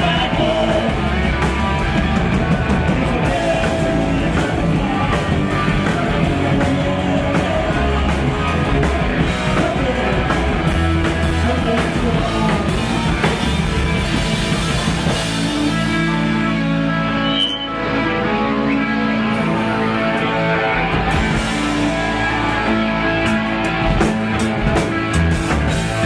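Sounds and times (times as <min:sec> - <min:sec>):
drums: 0:00.0 - 0:26.0
electric guitar: 0:00.0 - 0:26.0
punk rock band playing live: 0:00.0 - 0:26.0.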